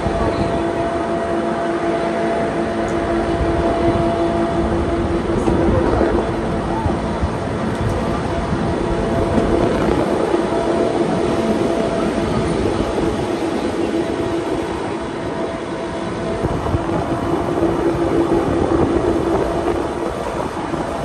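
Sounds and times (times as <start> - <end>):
motor hum: 0.0 - 21.0
train cars rumbling and rattling: 0.0 - 21.0.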